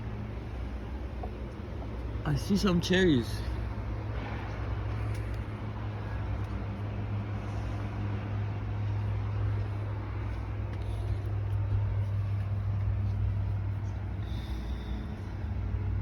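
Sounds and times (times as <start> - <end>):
low mechanical hum: 0.0 - 16.0
noisy wash: 0.0 - 16.0.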